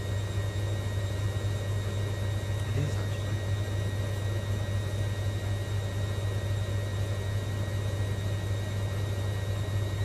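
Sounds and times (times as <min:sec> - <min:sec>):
washing machine hum and whir: 0:00.0 - 0:10.0.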